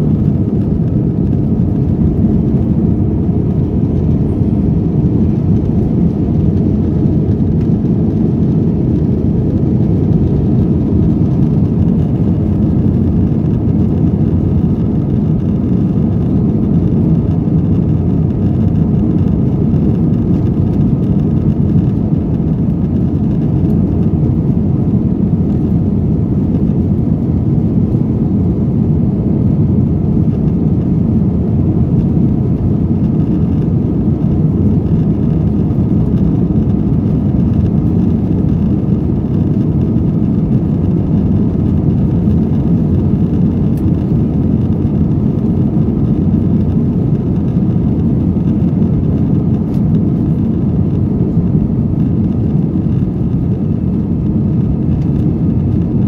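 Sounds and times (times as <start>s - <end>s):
jet engine and airflow rumble: 0.0s - 56.0s.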